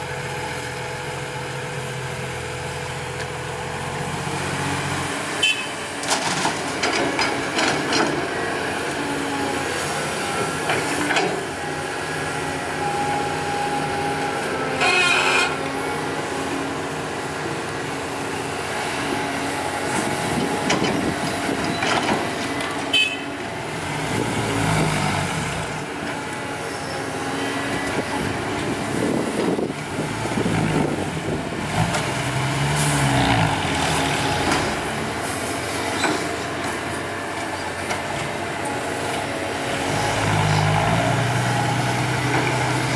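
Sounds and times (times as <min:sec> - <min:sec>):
excavator diesel engine labouring: 0:00.0 - 0:42.9.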